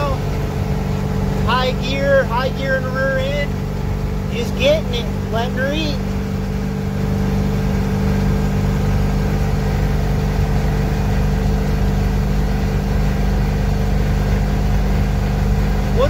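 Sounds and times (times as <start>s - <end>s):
diesel engine drone in cab: 0.0s - 16.0s
road noise: 0.0s - 16.0s.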